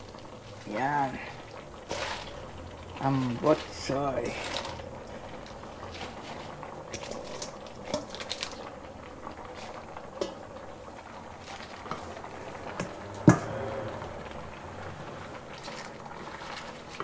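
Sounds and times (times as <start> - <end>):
pot bubbling: 0.0 - 17.0.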